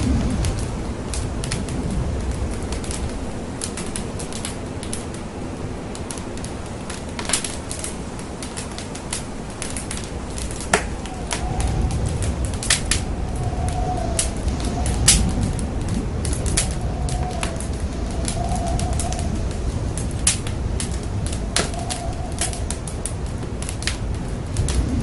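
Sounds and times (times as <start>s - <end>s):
low rumble of burning: 0.0s - 25.0s
wood fire crackling and popping: 0.0s - 25.0s.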